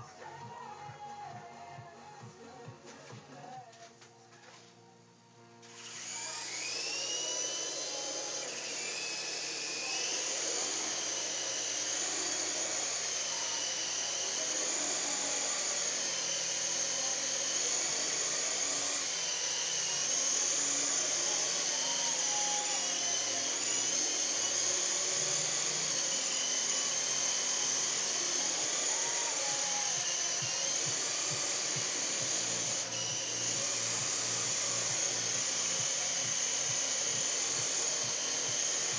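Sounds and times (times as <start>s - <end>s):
toy helicopter rotors whining: 5.6s - 38.9s.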